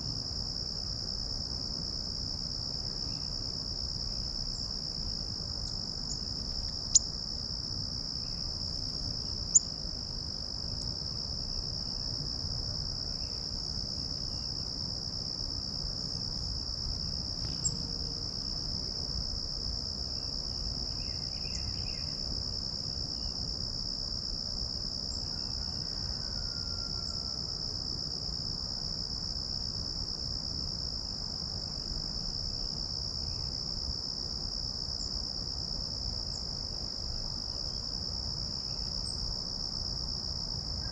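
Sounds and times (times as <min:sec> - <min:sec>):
insect chorus drone: 0:00.0 - 0:40.9.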